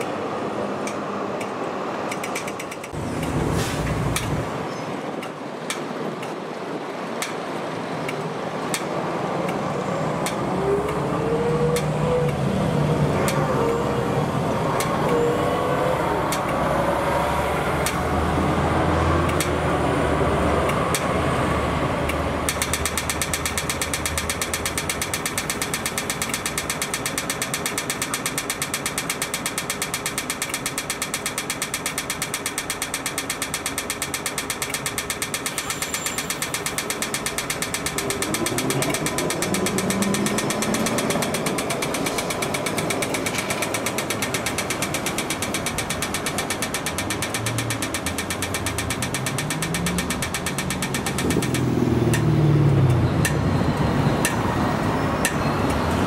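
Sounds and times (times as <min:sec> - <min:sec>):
traffic rumble: 0:00.0 - 0:56.0
fast mechanical ticking: 0:02.1 - 0:03.3, 0:11.7 - 0:19.7, 0:20.3 - 0:56.0.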